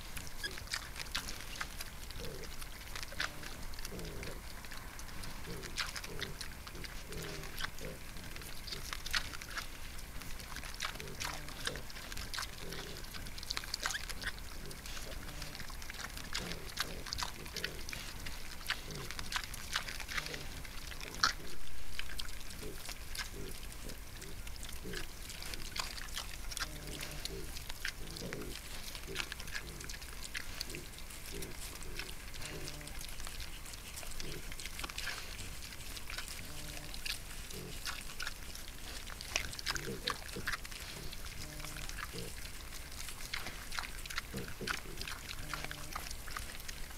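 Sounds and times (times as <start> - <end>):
boars grunting: 2.1 - 9.6, 10.4 - 33.1, 34.0 - 42.5, 43.3 - 46.6.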